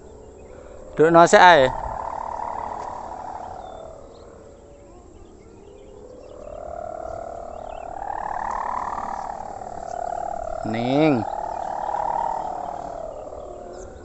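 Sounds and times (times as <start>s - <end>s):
kite hummer droning: 0.0s - 14.0s.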